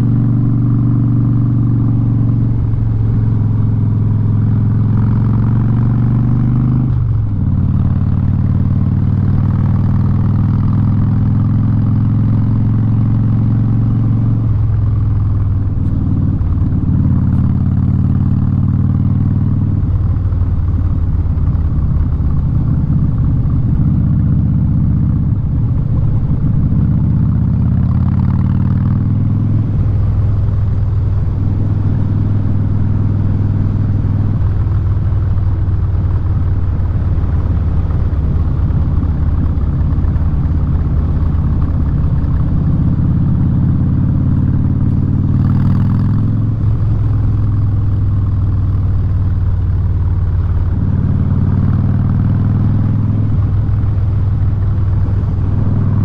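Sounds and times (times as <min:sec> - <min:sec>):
motorcycle engine through loud exhaust: 0:00.0 - 0:56.0.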